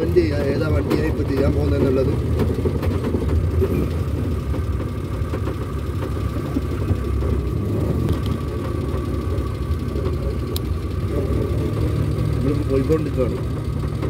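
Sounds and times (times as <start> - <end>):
van engine and road rumble: 0.0 - 14.0.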